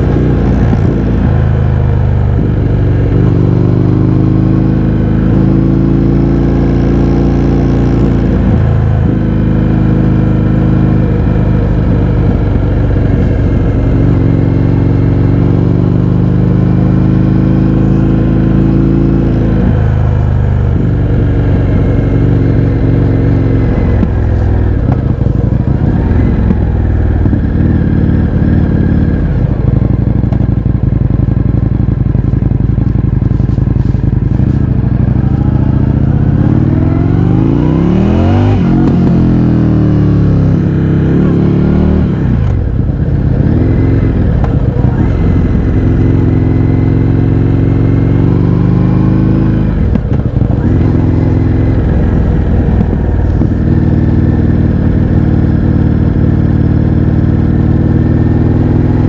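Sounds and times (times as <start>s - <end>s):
motorcycle engine revving loud: 0.0s - 59.0s.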